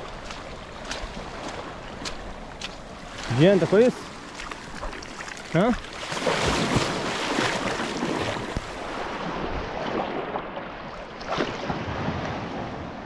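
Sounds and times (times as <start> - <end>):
sea water sloshing in waves: 0.0 - 13.0.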